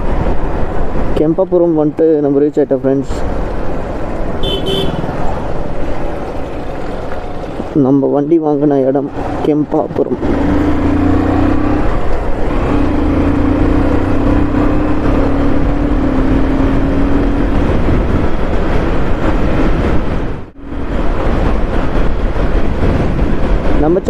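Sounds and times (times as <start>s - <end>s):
road noise: 0.0s - 24.0s
vehicle engine humming: 0.0s - 24.0s.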